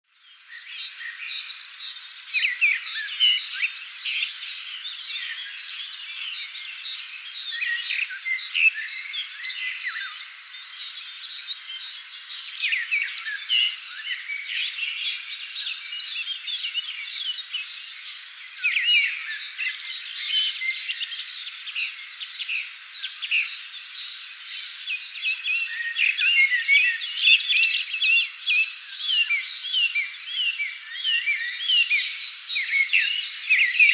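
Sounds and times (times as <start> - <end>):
songbirds chirping and whistling: 0.1 - 33.9.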